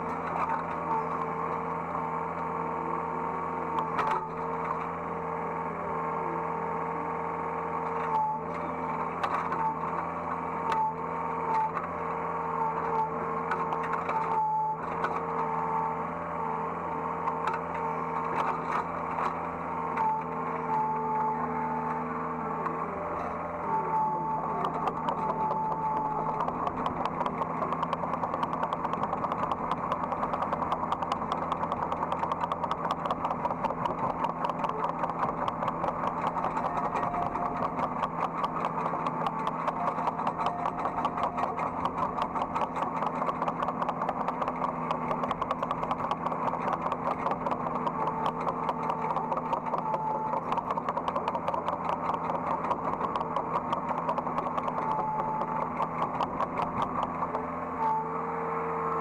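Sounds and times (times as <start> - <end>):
excavator diesel engine drone: 0.0 - 59.0.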